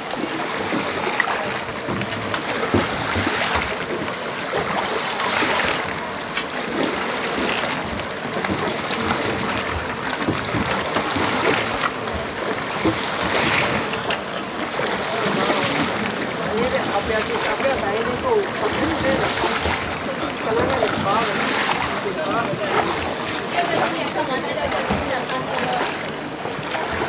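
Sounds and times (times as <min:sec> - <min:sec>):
water rushing and splashing: 0:00.0 - 0:27.0.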